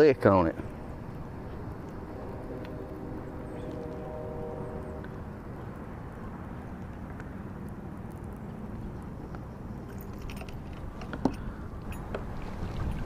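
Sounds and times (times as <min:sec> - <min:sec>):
wind rumble on microphone: 0:00.1 - 0:13.0.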